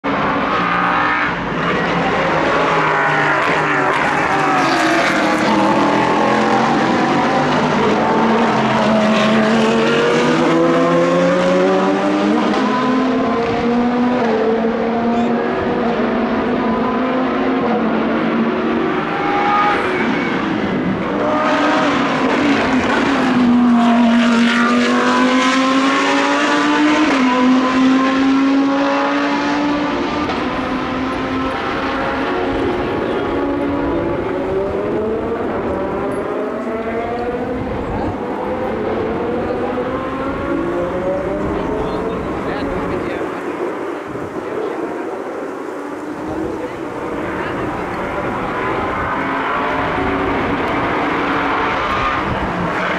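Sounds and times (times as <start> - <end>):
sports car engines at full throttle: 0.0 - 52.9.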